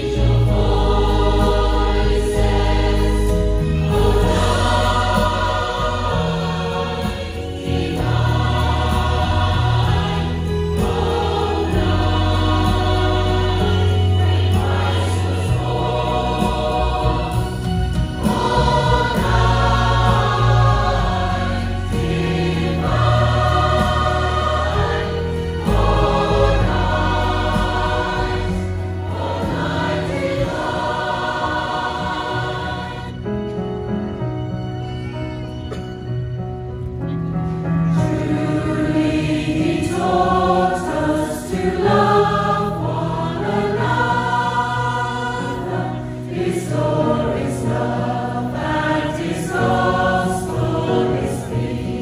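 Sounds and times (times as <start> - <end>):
choir singing: 0.0 - 33.8, 37.8 - 52.0.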